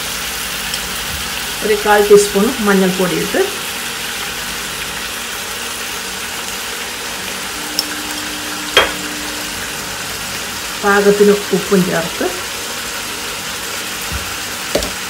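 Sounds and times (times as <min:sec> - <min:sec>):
chicken and onions sizzling: 0:00.0 - 0:15.0.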